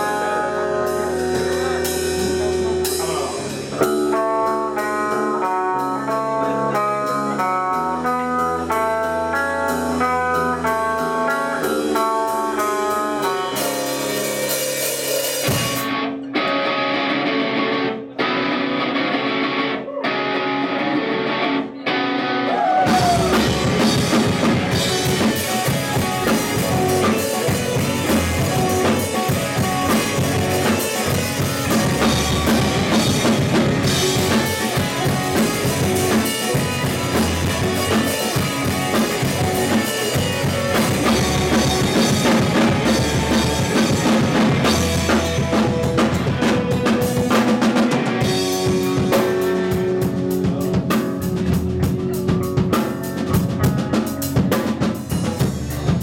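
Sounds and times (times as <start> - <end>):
distorted guitars: 0.0 - 56.0
picked guitar notes: 0.0 - 56.0
post-rock band playing live: 0.0 - 56.0.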